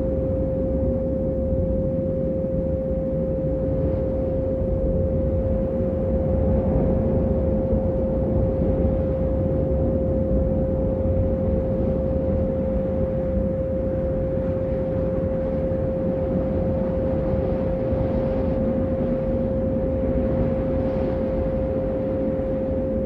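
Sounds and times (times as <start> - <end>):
constant low noise: 0.0 - 23.0
steady synthesized pure tone: 0.0 - 23.0.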